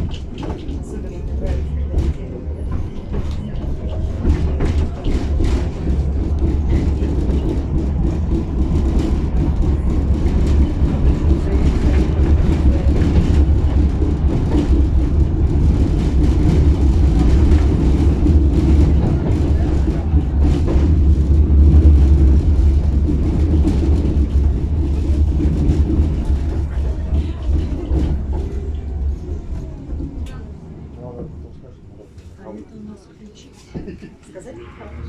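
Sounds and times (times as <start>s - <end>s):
tram wheels and motors rumbling: 0.0s - 35.0s.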